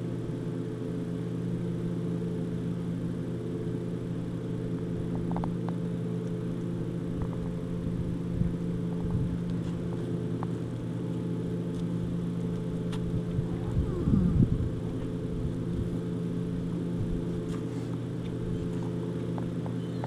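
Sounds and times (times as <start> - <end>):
motor humming: 0.8 - 20.0.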